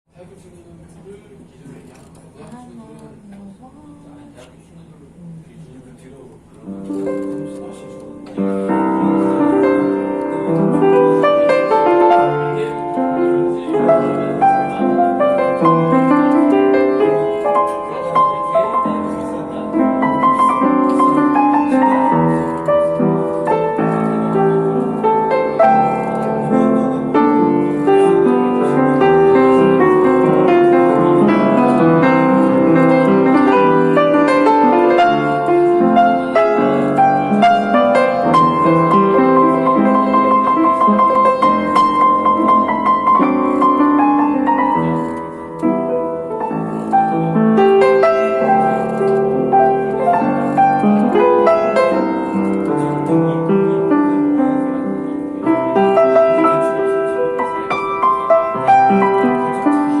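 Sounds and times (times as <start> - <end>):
slow piano melody: 6.0 - 60.0.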